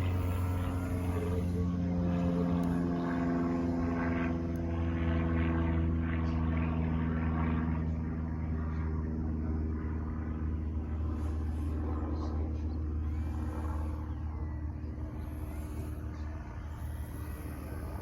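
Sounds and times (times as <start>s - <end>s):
constant low hum: 0.0s - 18.0s
model plane motor droning: 0.0s - 18.0s.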